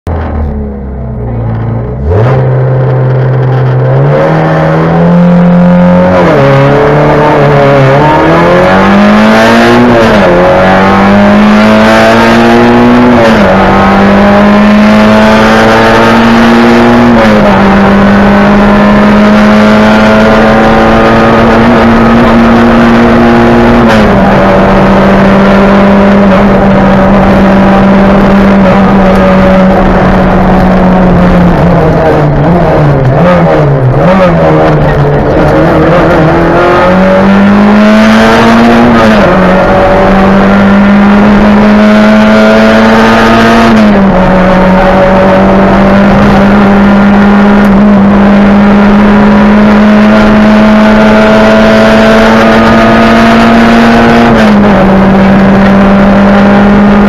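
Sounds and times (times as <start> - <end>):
rally car engine accelerating: 0.1 - 57.0.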